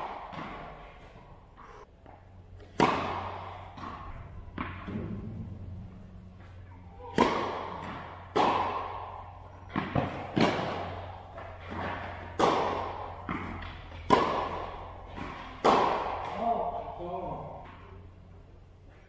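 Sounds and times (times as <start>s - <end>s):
racket striking tennis ball: 0.0s - 18.1s
tennis ball bouncing: 0.0s - 18.2s.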